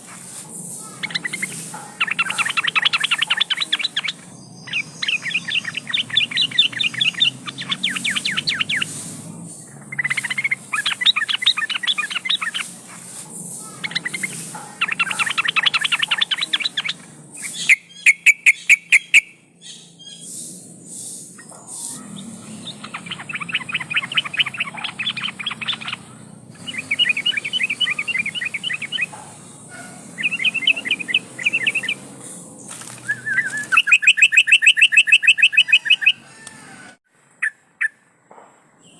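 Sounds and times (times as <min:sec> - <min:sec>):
bird chattering trills: 0:00.0 - 0:38.0.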